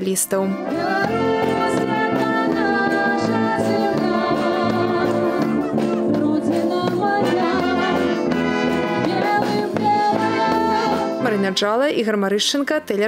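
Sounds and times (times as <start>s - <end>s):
woman singing into microphone: 0.5s - 11.6s
military brass band playing: 0.6s - 11.8s.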